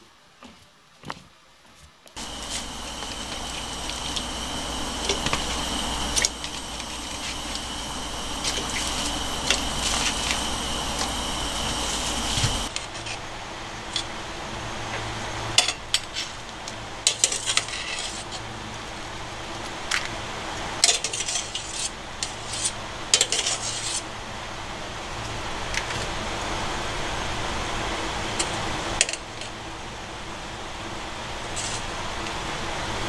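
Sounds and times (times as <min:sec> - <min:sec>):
steady hiss: 0:02.2 - 0:20.8, 0:21.5 - 0:33.0.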